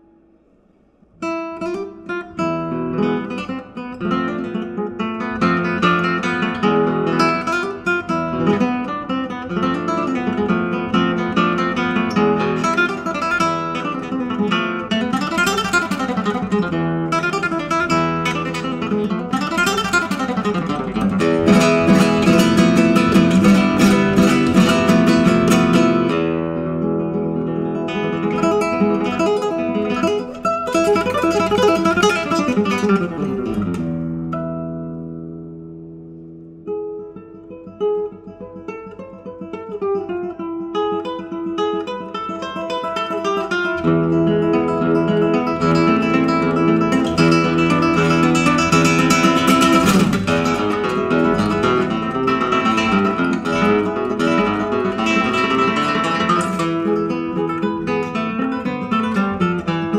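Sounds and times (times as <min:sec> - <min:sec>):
flamenco acoustic guitar: 0:00.0 - 0:59.9.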